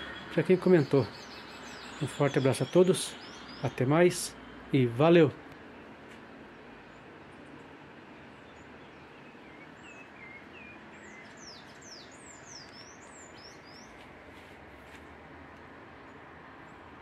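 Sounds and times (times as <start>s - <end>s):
small birds chirping: 0.0s - 14.2s
low background hiss: 0.0s - 17.0s.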